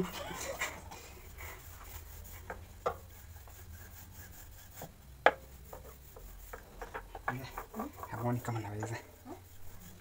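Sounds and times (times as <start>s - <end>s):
rolling pin rubbing dough: 0.0s - 10.0s.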